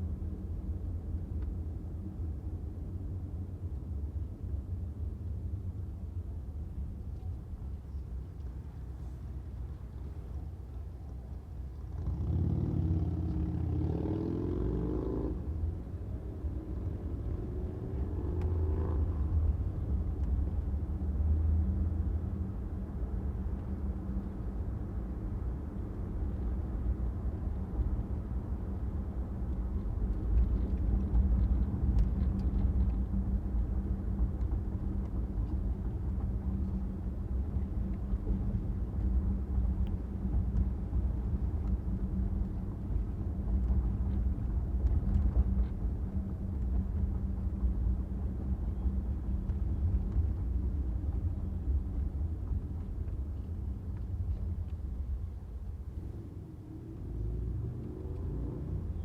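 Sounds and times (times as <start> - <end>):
car engine and road noise: 0.0 - 59.0
low hum: 7.1 - 59.0.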